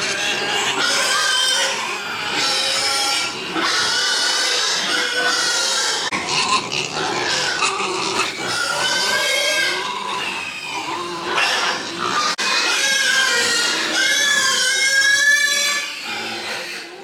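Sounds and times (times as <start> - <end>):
pigs grunting and squealing: 0.0 - 17.0.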